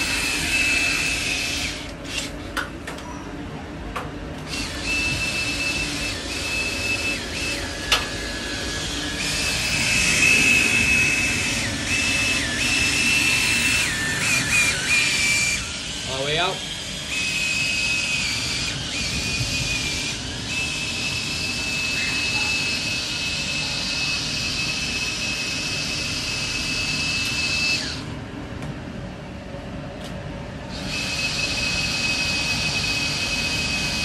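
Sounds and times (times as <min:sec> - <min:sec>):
duct cleaning tool whine: 0:00.0 - 0:03.3, 0:04.4 - 0:28.2, 0:30.7 - 0:34.0.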